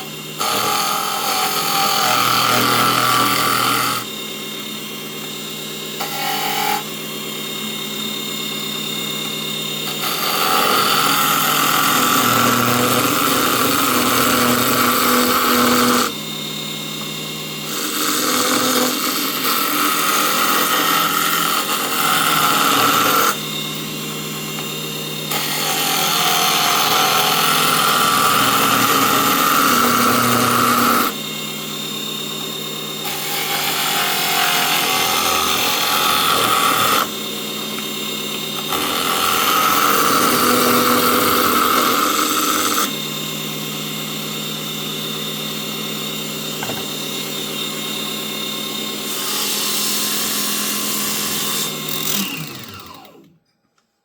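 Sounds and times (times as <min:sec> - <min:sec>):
lathe motor humming: 0:00.0 - 0:53.2
chisel cutting spinning wood: 0:00.0 - 0:53.3.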